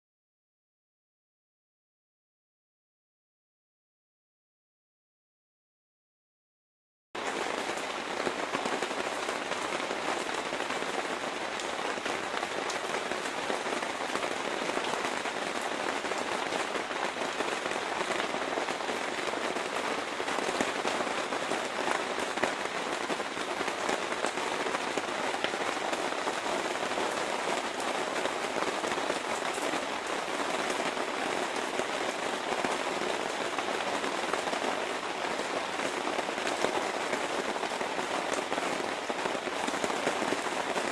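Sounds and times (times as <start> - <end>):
rain falling on water and deck: 7.2 - 40.9.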